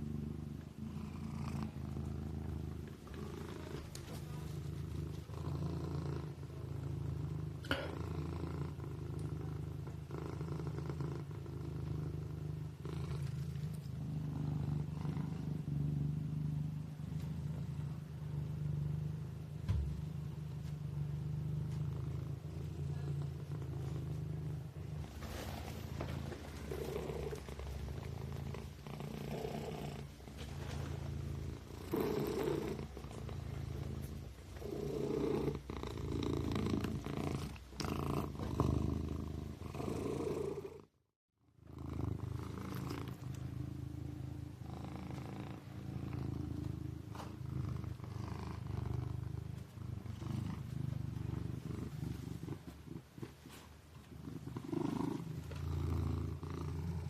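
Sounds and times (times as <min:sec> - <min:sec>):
kitten purring: 0:00.0 - 0:57.0.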